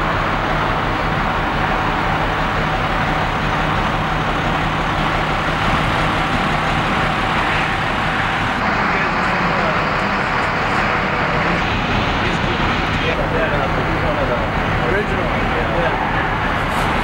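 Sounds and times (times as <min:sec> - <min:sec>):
large vehicle engine idling: 0:00.0 - 0:17.0.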